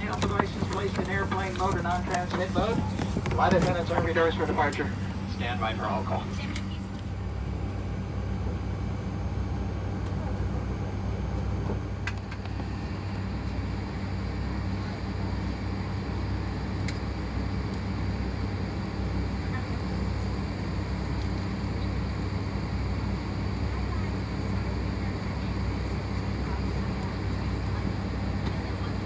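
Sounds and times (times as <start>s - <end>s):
airplane cabin drone: 0.0s - 29.0s.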